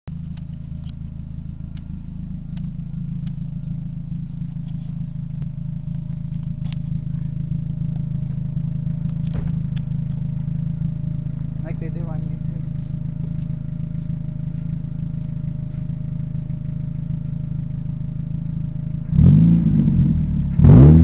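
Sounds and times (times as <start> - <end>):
car engine idling: 0.1 - 21.0.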